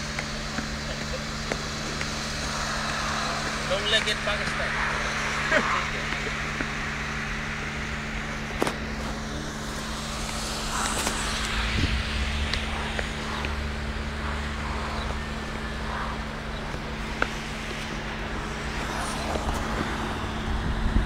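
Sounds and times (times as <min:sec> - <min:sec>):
deep rumble: 0:00.0 - 0:21.0
engine hum: 0:00.0 - 0:21.0
road traffic noise: 0:00.0 - 0:21.0.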